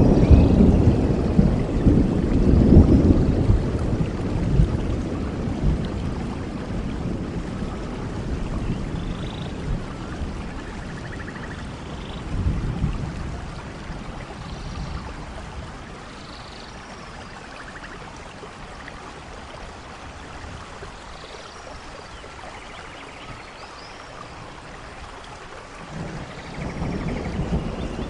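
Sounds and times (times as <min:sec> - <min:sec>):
low rumble of thunder: 0:00.0 - 0:20.9, 0:25.7 - 0:28.0
steady rain falling: 0:00.0 - 0:28.0.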